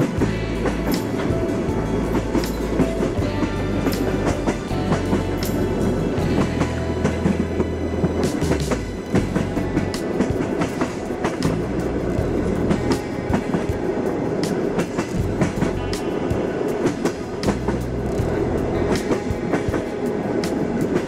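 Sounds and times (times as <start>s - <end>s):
train rumbling on track: 0.0s - 21.0s
wheels clicking over rail joints: 0.0s - 21.0s.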